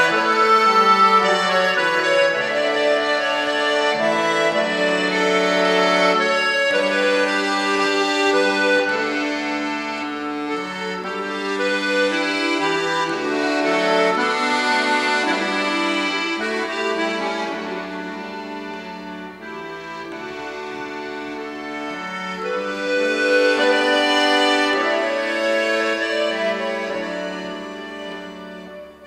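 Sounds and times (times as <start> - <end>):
accordion folk melody: 0.0 - 29.0.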